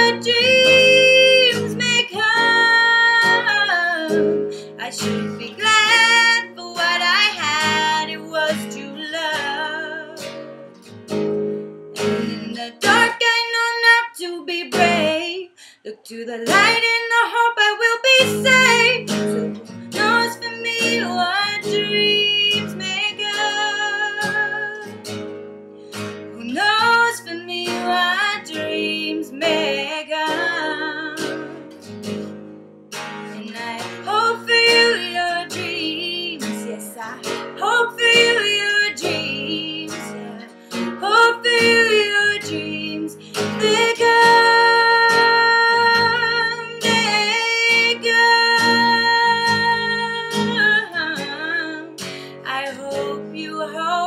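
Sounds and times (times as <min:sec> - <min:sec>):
woman singing: 0:00.0 - 0:10.6, 0:12.0 - 0:25.1, 0:26.3 - 0:31.9, 0:33.2 - 0:54.0
nylon-string guitar: 0:00.0 - 0:15.6, 0:16.3 - 0:54.0.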